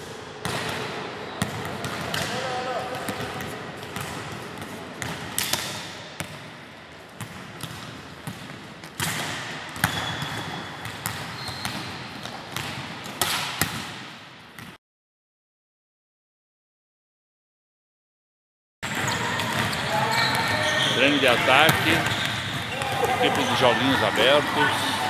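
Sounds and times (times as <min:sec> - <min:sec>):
large hall noise: 0:00.0 - 0:14.6, 0:18.8 - 0:25.0.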